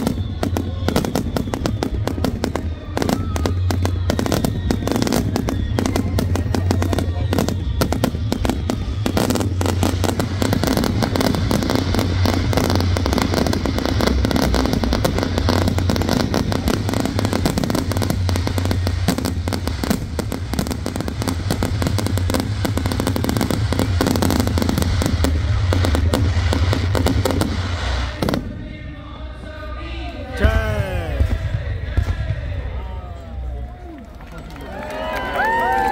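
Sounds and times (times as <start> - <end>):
continuous low rumble: 0.0 - 35.9
fireworks bangs and crackling: 0.0 - 35.9.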